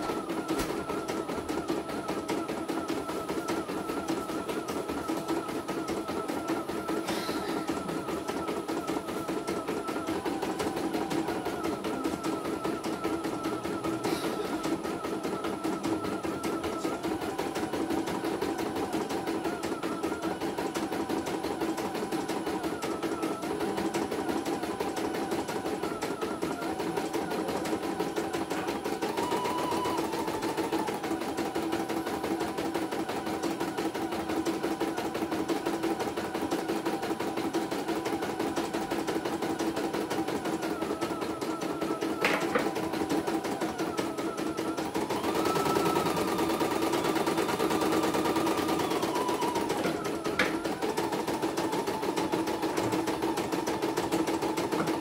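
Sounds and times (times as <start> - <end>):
embroidery machine stitching: 0.0 - 55.0.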